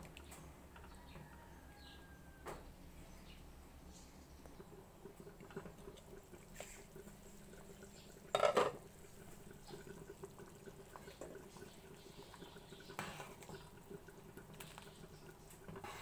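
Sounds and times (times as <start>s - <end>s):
broth bubbling in a pot: 0.0s - 16.0s.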